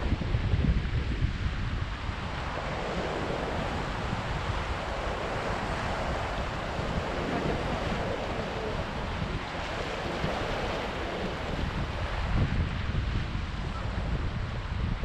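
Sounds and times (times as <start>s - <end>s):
wind rumble on microphone: 0.0s - 15.0s
surf breaking over rocks: 0.8s - 13.7s.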